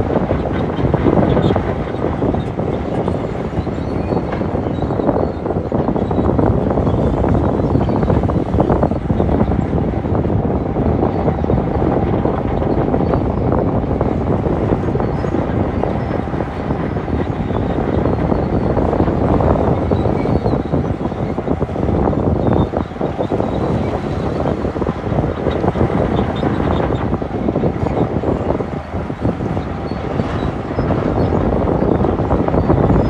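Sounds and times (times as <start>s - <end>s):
bulldozer diesel engine under load: 0.0s - 33.0s.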